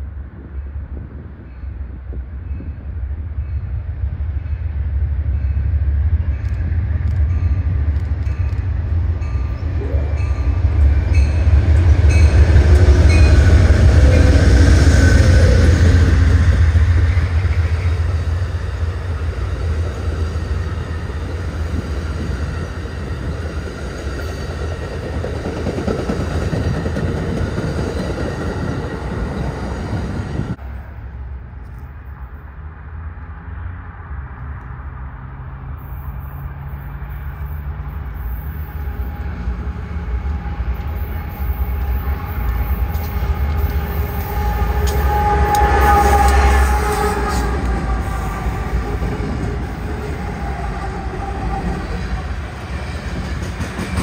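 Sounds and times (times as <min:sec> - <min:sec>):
train wheel noise: 0:00.0 - 0:32.3, 0:35.7 - 0:54.0
train passing with deep rumble: 0:00.0 - 0:54.0.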